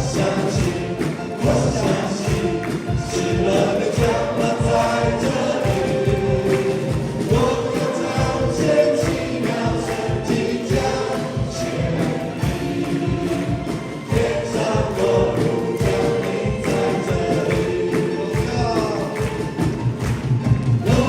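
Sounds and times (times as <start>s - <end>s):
voices singing together: 0.0s - 21.0s
worship band music: 0.0s - 21.0s.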